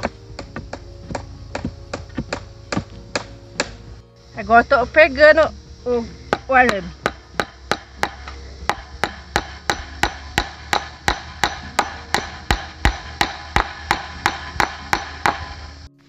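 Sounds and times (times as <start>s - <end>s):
hammer striking wooden post: 0.0s - 3.9s, 6.3s - 15.7s.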